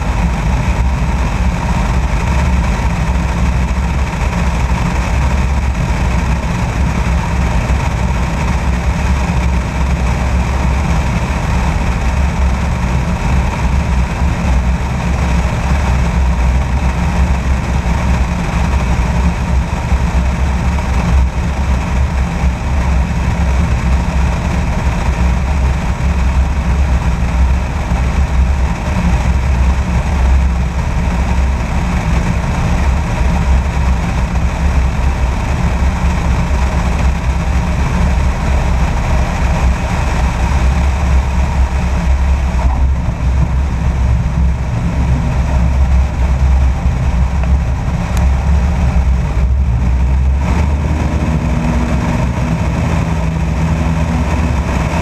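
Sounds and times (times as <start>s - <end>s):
small airplane engine running: 0.0s - 55.0s
wind rushing past camera: 0.0s - 55.0s.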